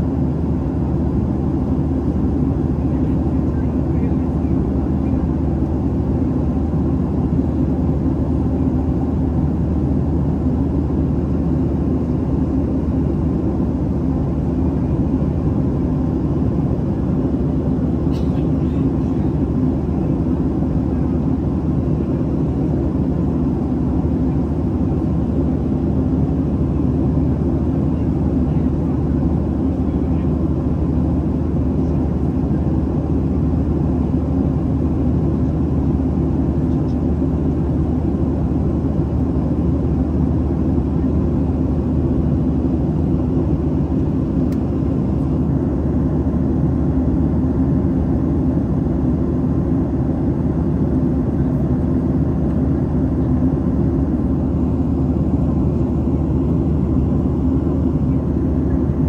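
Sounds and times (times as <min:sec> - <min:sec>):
airliner cabin engine drone: 0:00.0 - 0:59.0
steady hum: 0:00.0 - 0:59.0.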